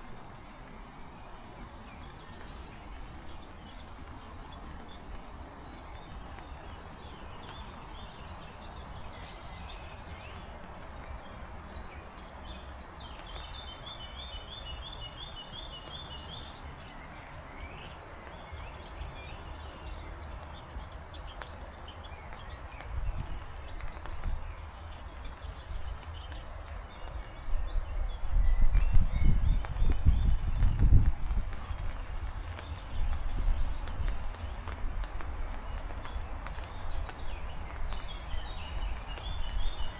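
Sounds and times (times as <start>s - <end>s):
heavy rain: 0.0s - 39.9s
songbirds calling: 0.0s - 39.9s
wind rumble on microphone: 0.0s - 39.9s.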